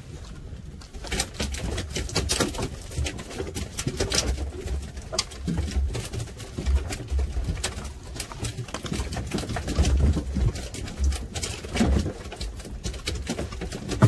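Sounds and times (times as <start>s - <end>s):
rustles clicks and knocks of lines: 0.0s - 14.0s.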